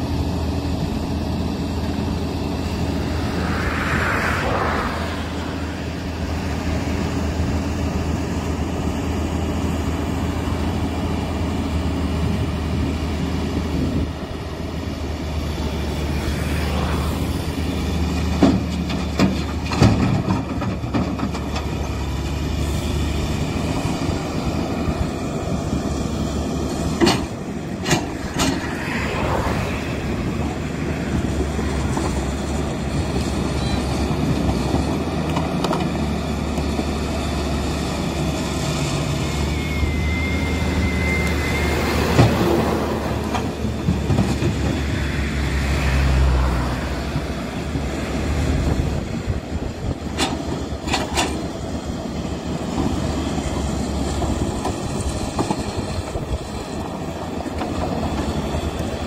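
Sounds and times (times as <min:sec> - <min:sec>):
diesel engines rumbling: 0:00.0 - 0:59.0.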